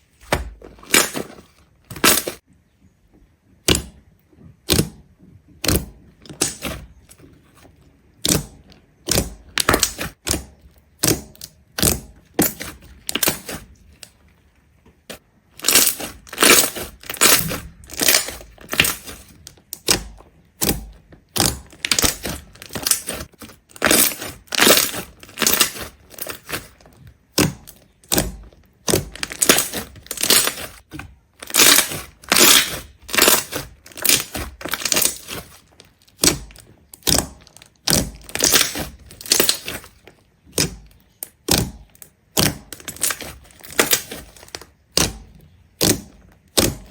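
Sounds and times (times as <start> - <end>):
brittle crunches: 0.2 - 2.4, 5.6 - 14.4, 15.0 - 46.9.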